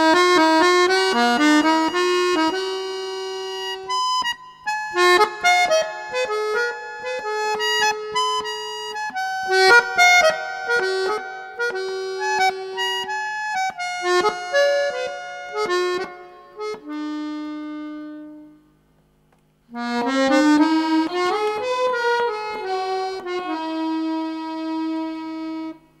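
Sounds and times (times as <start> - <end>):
instrumental background music: 0.1 - 18.5, 19.7 - 25.8.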